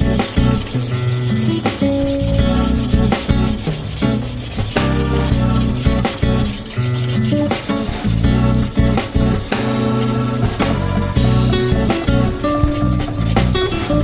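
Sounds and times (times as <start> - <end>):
background music: 0.0 - 14.0
knife grinding on whetstone: 0.0 - 14.0.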